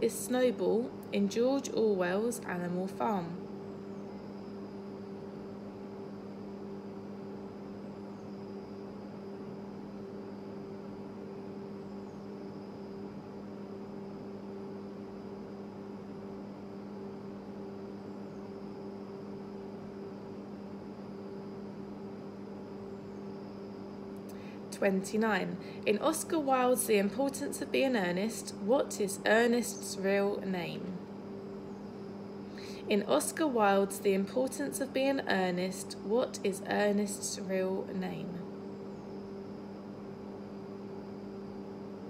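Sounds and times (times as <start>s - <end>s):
electrical hum: 0.0s - 42.0s
faint high whine: 0.0s - 42.0s.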